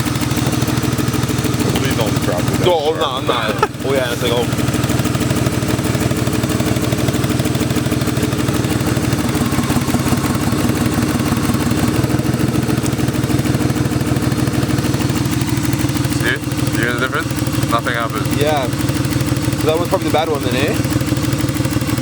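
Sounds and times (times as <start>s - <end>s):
car engine idling roughly: 0.0s - 22.0s.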